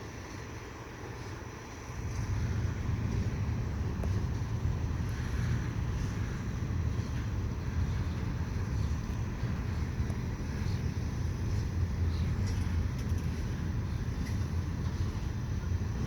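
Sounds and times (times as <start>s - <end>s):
heavy vehicle rumbling: 0.0s - 16.0s.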